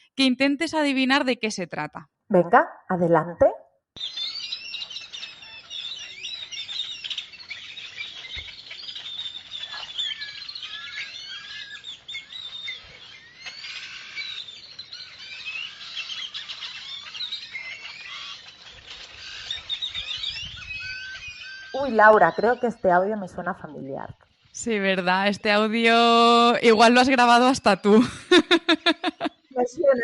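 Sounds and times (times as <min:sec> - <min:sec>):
tropical birds chirping and calling: 0:04.0 - 0:30.0.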